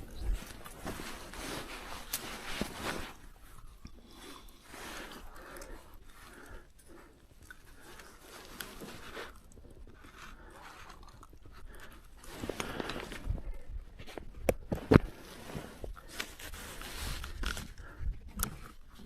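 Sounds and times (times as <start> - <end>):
crunching and scraping: 0.0 - 19.0.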